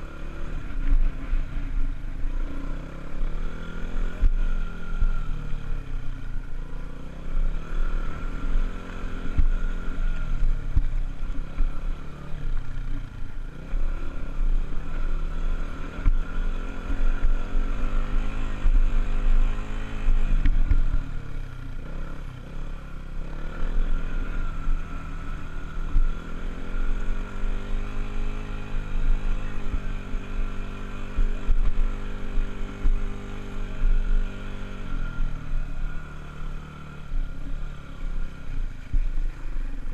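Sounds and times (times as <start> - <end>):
dirt bike engine revving: 0.0 - 5.9, 6.5 - 39.9.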